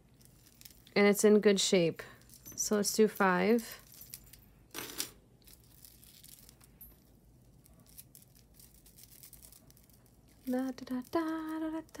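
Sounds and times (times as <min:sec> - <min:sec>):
handling rustles and clicks: 0:02.1 - 0:12.0.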